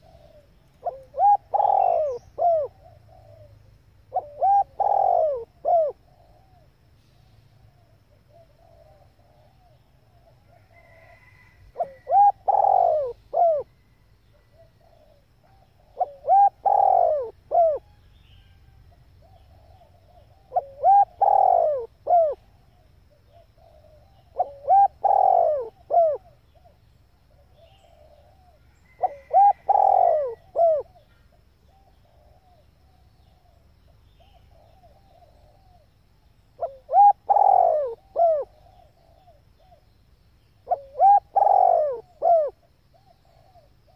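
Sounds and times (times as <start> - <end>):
dove cooing: 0.0 - 6.7, 7.7 - 18.6, 19.2 - 36.0, 36.6 - 39.9, 40.6 - 43.9.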